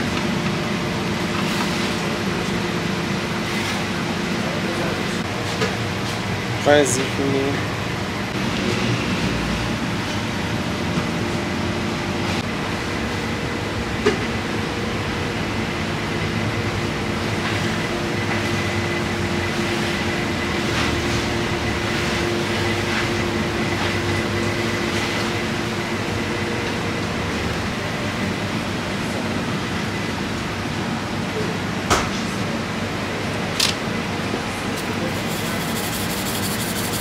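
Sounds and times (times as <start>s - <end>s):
kitchen mechanical hum: 0.0s - 37.0s.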